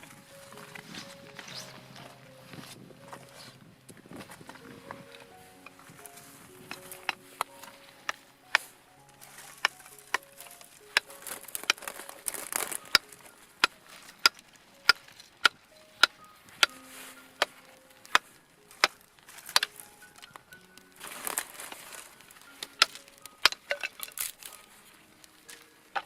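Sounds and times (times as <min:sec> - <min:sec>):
soft background music: 0:00.0 - 0:26.0.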